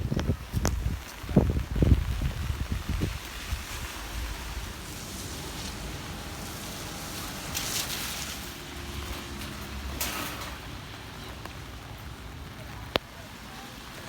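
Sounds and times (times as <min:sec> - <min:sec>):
steady rushing hiss: 0:00.0 - 0:14.0
wind rumbling on microphone: 0:00.0 - 0:14.0.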